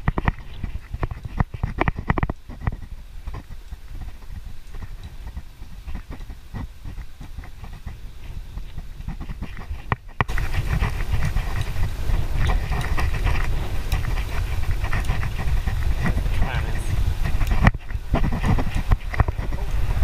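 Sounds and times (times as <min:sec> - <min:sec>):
bike rattling and knocking: 0:00.0 - 0:20.0
wind rumble on microphone: 0:00.0 - 0:20.0.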